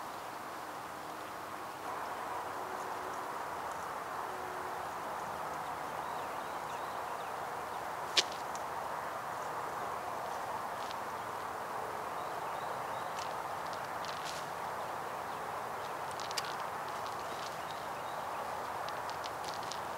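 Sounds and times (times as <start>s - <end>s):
outdoor background noise: 0.0s - 19.9s.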